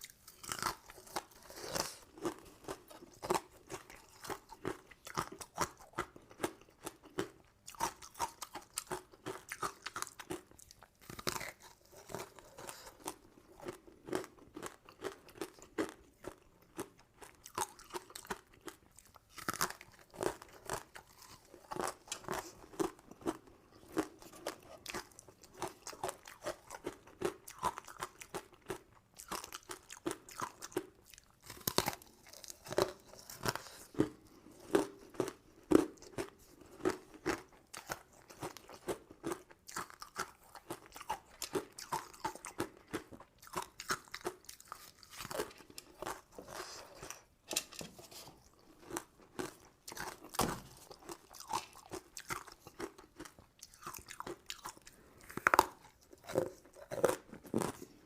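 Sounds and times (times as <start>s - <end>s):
crunching sweets: 0.0s - 58.0s.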